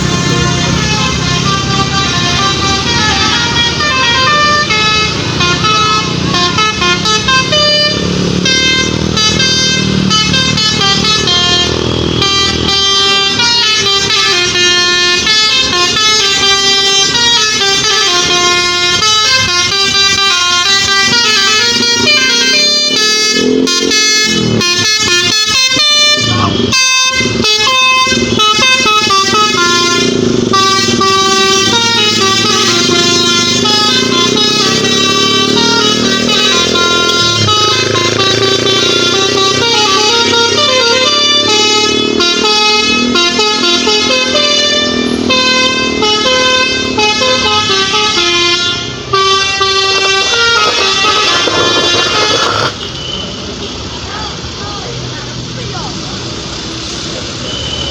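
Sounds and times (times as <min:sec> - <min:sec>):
musical air horn playing a tune: 0:00.0 - 0:52.9.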